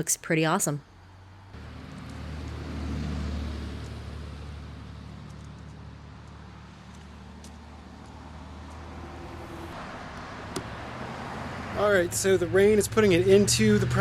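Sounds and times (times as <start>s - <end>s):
vehicle engine rumbling: 0.8s - 14.0s.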